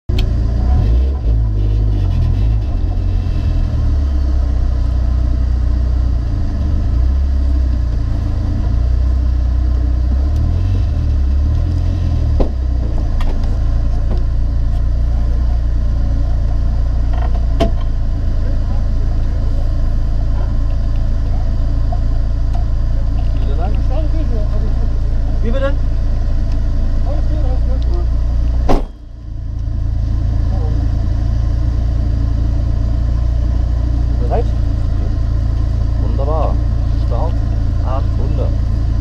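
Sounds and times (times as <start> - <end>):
car engine idling: 0.1 - 39.0.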